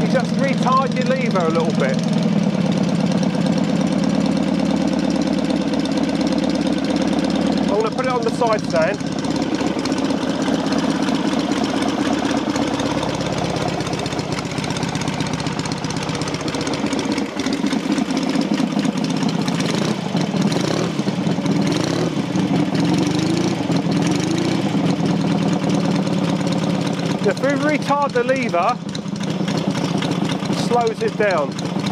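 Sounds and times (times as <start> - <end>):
motorcycle engine idling fast: 0.0 - 31.9.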